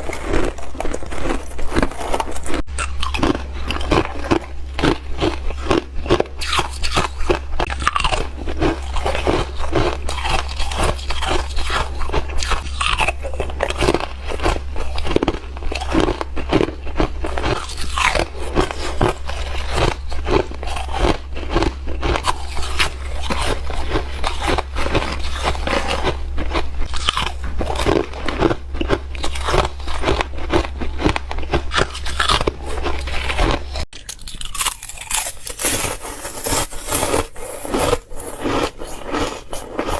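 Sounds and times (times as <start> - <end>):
ice being chewed: 0.0 - 39.9
steady low hum: 0.0 - 39.9.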